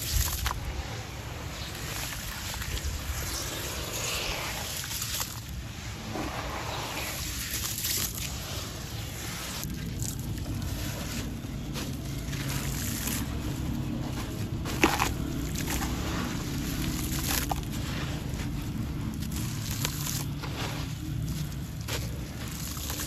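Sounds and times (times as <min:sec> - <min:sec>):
hands sloshing muddy water: 0:00.0 - 0:23.0
sand pieces splashing into water: 0:00.0 - 0:23.0.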